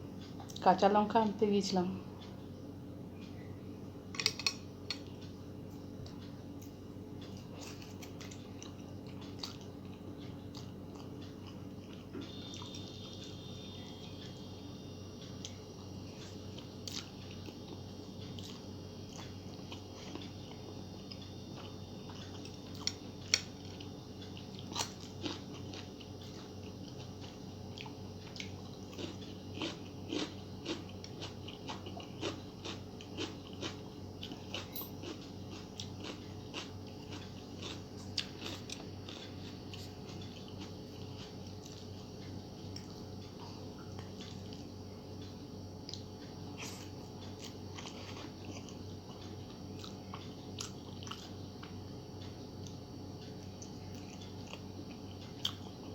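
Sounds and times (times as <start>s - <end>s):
steady low hum: 0.0s - 55.9s
crunchy chewing: 4.2s - 14.5s, 15.2s - 55.9s.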